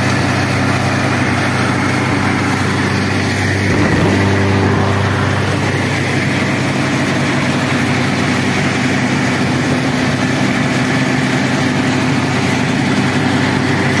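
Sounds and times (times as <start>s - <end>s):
diesel engine hum: 0.0s - 14.0s
thresher threshing: 0.1s - 14.0s.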